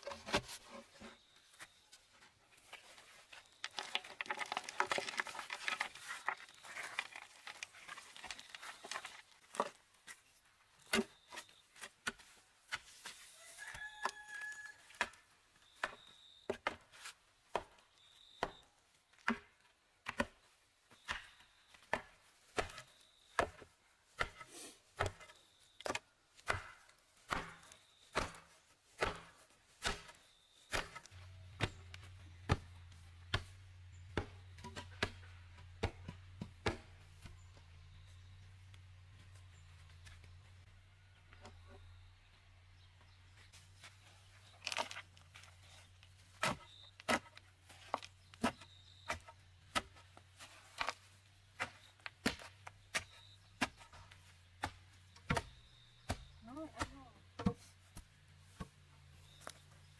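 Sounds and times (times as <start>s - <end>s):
pole tamping earth: 0.0s - 1.8s, 2.5s - 18.6s, 19.2s - 40.4s, 43.3s - 59.9s
loose soil crunching: 0.0s - 42.0s, 42.7s - 59.9s.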